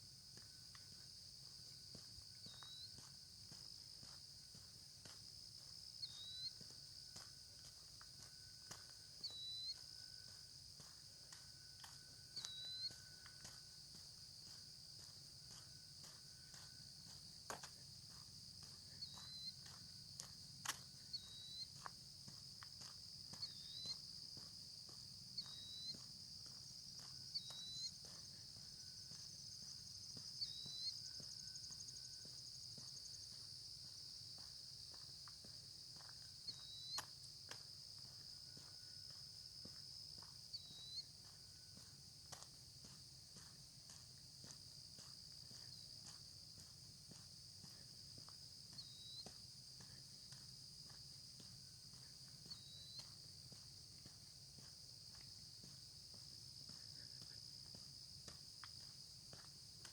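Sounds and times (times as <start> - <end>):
crickets chirping: 0.0 - 59.9
soft footsteps: 0.3 - 40.5, 41.2 - 59.9.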